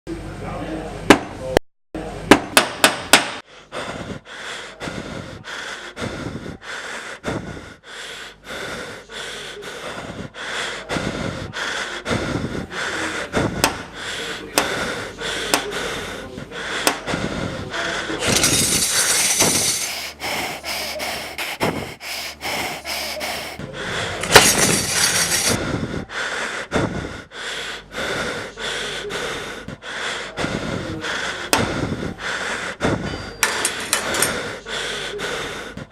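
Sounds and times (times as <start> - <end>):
breathy puffs: 3.6 - 35.9
long hissing breaths: 3.7 - 32.8.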